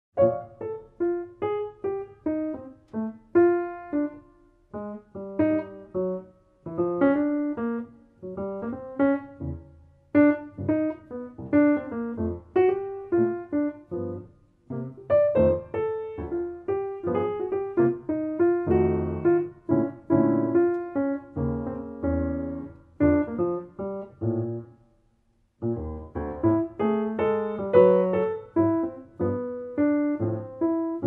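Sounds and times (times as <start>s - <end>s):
piano jazz piece: 0.2s - 31.0s.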